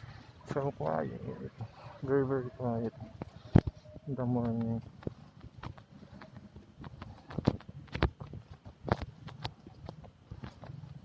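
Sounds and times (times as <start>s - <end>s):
footsteps on hard walkway: 0.0s - 11.0s.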